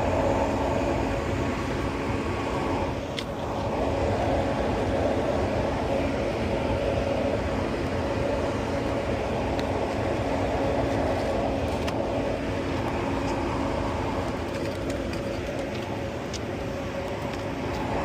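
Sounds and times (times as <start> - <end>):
hvac blower whooshing hum: 0.0 - 18.0.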